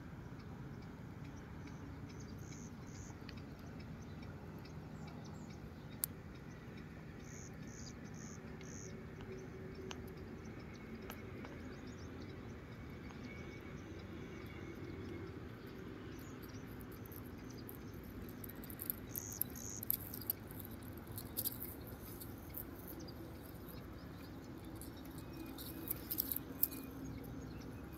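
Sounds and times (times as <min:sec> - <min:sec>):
low rumble with faint hum: 0:00.0 - 0:27.9
faint ticks and rustles: 0:00.2 - 0:27.9.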